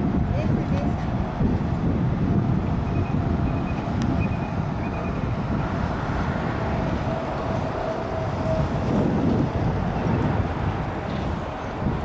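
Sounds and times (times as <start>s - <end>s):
distant traffic: 0.0s - 12.0s
wind on microphone: 0.0s - 12.0s.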